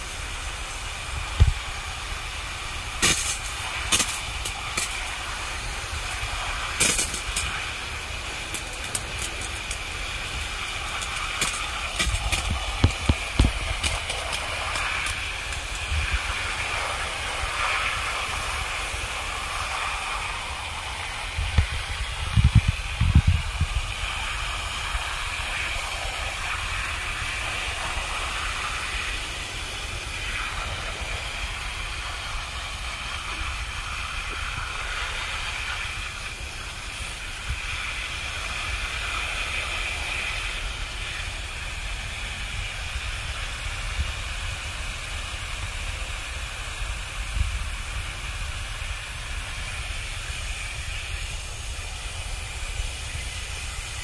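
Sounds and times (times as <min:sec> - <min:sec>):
hose nozzle spray hissing: 0:00.0 - 0:54.0.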